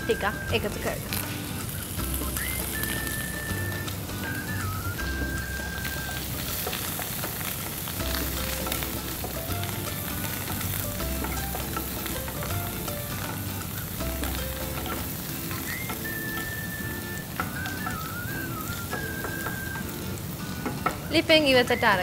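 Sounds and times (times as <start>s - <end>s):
background music with bass line: 0.0s - 7.3s, 7.9s - 21.0s
prawns sizzling in a pan: 0.0s - 22.0s.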